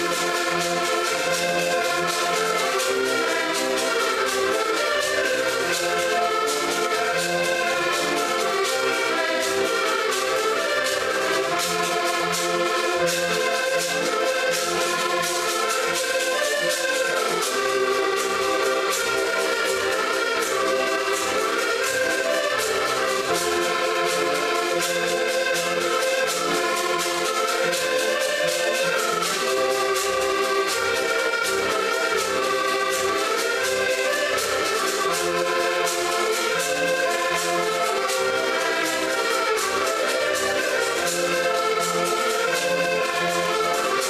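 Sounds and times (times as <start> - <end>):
button accordions playing folk tune: 0.0 - 44.0.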